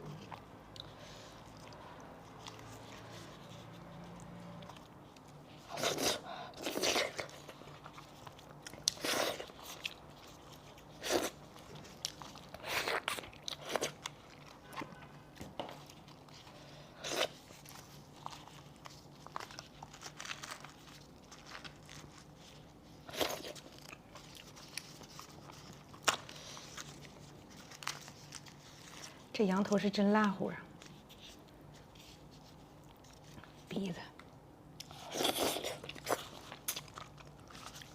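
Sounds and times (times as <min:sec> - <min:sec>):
chewing and crunching meat: 0:00.0 - 0:29.3, 0:34.3 - 0:37.9
faint steady hum: 0:00.0 - 0:37.9.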